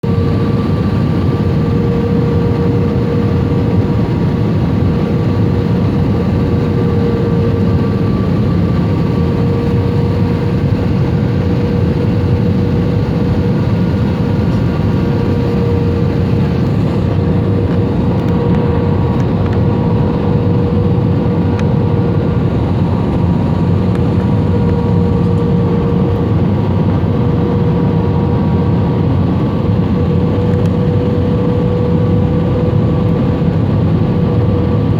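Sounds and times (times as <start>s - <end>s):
aircraft engines and airflow roar: 0.0s - 34.9s
constant drone: 0.0s - 34.9s.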